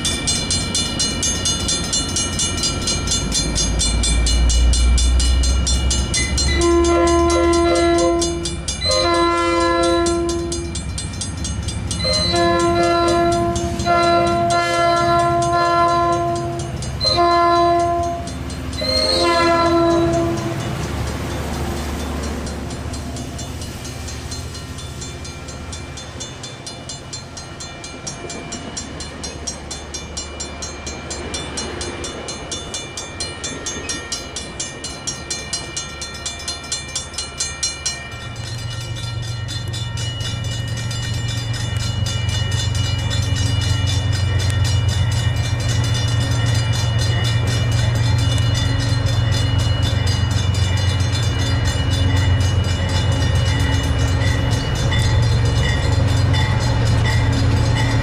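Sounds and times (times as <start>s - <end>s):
crossing bell ringing: 0.0s - 58.0s
diesel locomotive hum: 0.0s - 58.0s
train wheel clatter: 0.0s - 58.0s.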